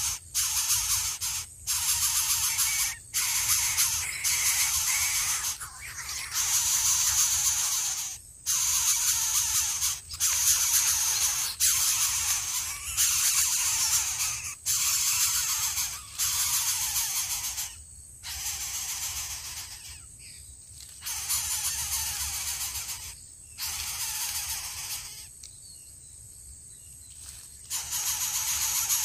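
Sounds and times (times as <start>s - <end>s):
bird nestling hissing: 0.0s - 20.0s, 21.0s - 25.3s, 27.2s - 29.0s.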